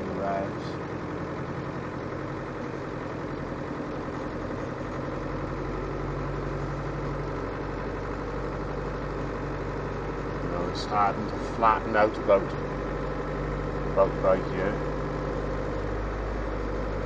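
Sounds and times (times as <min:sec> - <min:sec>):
diesel engine running from inside cab: 0:00.0 - 0:17.0.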